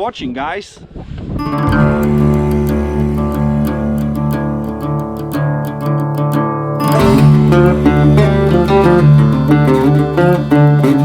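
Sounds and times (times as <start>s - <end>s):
acoustic guitar: 1.4s - 11.0s
bass line: 1.4s - 11.0s.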